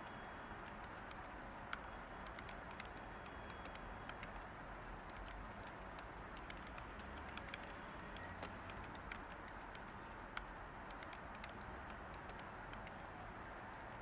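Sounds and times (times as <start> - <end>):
computer keyboard typing: 0.0 - 13.2
white noise hiss: 0.0 - 14.0.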